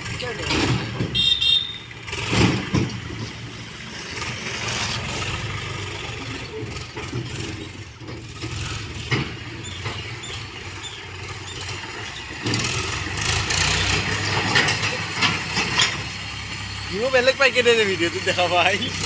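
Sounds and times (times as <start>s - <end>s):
heavy machine engine idling: 0.0s - 19.0s.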